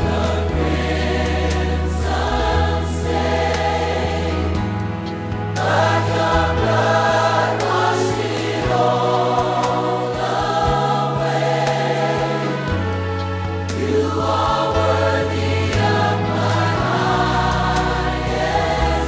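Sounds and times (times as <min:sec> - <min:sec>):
gospel choir singing: 0:00.0 - 0:19.0
instrumental backing with bass line: 0:00.0 - 0:19.0.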